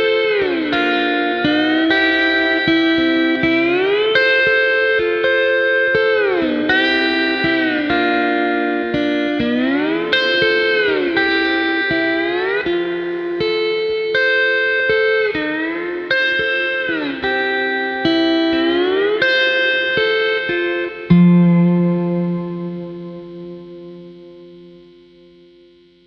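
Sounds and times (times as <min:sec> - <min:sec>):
slide guitar chords: 0:00.0 - 0:26.0.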